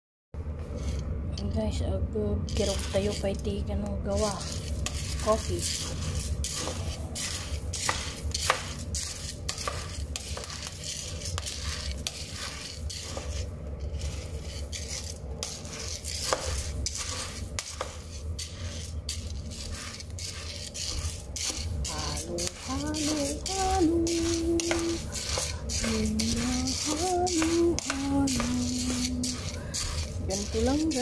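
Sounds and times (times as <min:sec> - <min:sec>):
wooden spoon stirring beans: 0:00.6 - 0:01.6, 0:02.4 - 0:31.0
coffee beans rattling in a pan: 0:02.4 - 0:31.0.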